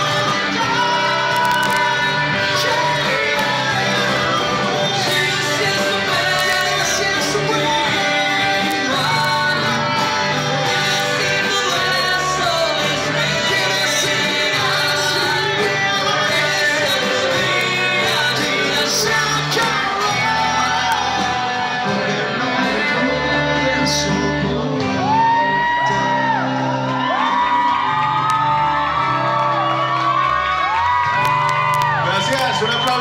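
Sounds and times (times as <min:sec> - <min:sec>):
people shouting and whooping: 0:00.0 - 0:22.5, 0:24.6 - 0:33.0
live band playing: 0:00.0 - 0:33.0.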